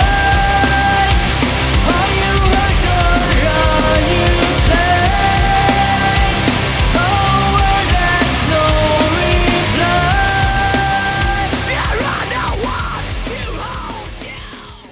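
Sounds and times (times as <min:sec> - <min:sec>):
heavy metal music: 0:00.0 - 0:14.9.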